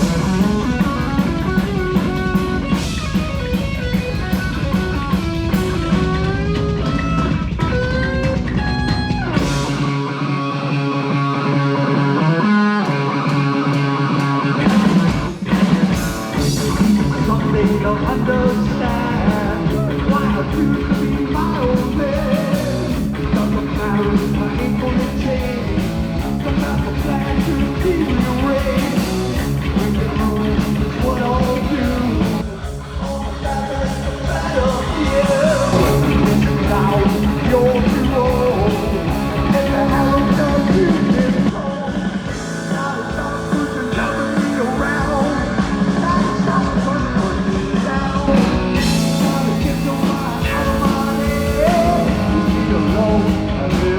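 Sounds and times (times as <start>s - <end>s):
electric guitar: 0.0s - 53.9s
heavy metal band playing: 0.0s - 53.9s.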